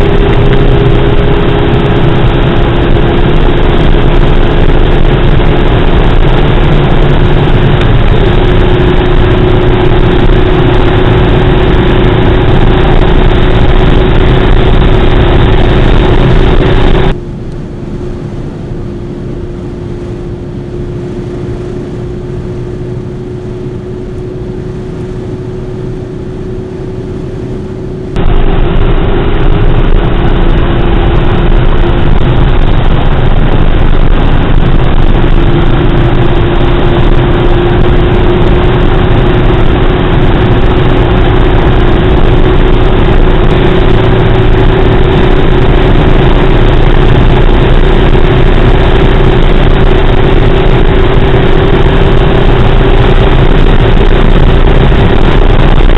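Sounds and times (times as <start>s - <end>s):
diesel engine droning: 0.0s - 55.9s
wind and road noise: 0.0s - 55.9s.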